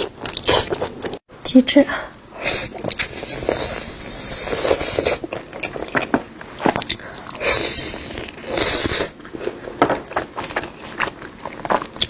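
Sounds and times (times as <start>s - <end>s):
woman chewing food: 0.0s - 1.2s, 2.2s - 12.0s.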